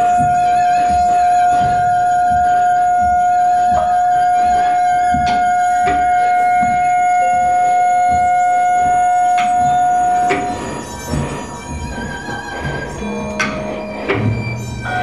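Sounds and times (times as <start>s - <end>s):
fainter high tones: 0.0s - 15.0s
lower tone: 0.0s - 15.0s
steady high electronic tone: 0.0s - 15.0s.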